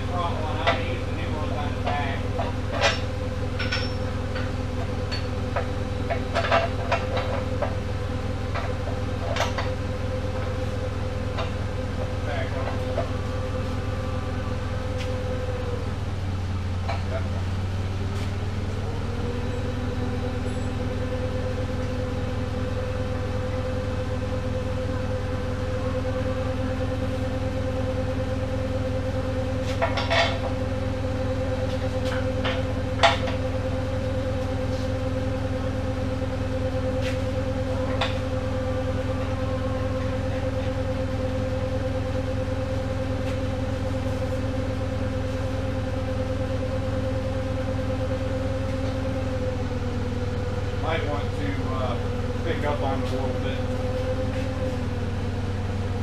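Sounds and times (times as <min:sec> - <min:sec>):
machine drone with whine: 0:00.0 - 0:56.0.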